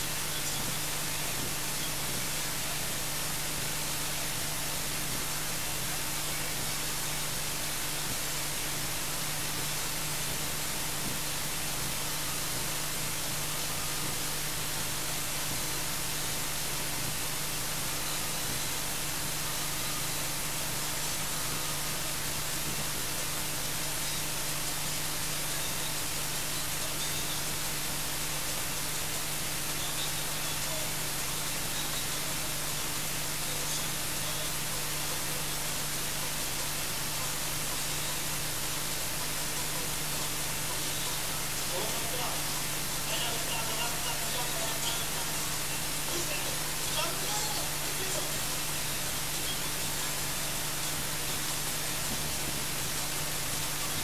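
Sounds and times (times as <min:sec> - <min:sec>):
low electrical hum: 0:00.0 - 0:54.0
static hiss: 0:00.0 - 0:54.0.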